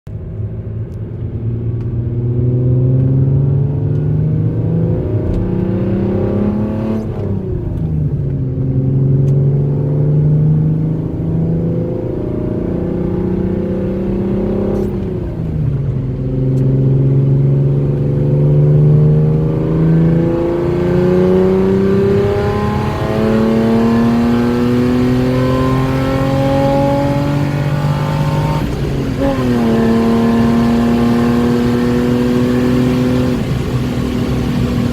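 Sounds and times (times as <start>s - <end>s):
car engine accelerating through gears: 0.1s - 34.9s.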